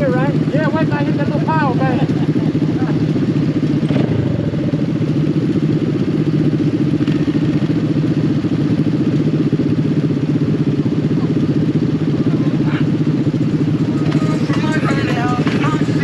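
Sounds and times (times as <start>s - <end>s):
mini bike engine running: 0.0s - 16.0s.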